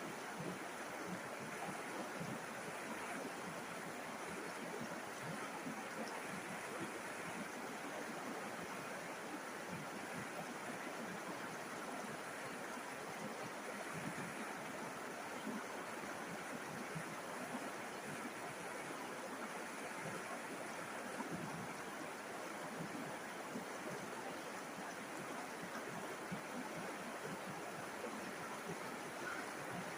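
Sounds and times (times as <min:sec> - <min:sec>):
river water babbling over stones: 0:00.0 - 0:29.9.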